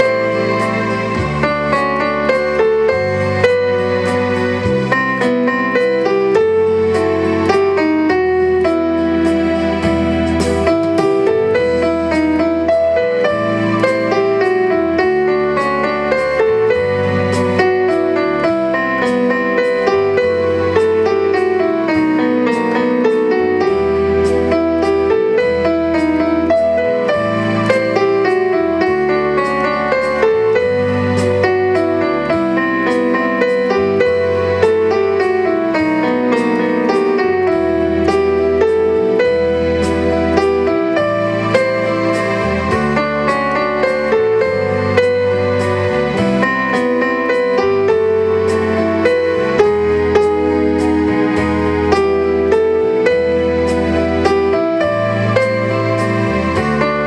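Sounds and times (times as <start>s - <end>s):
digital piano melody with chords: 0.0s - 57.0s.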